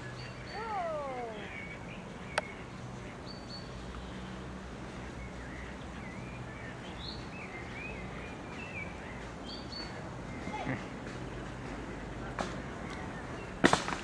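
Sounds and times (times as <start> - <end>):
low background hum: 0.0 - 13.4.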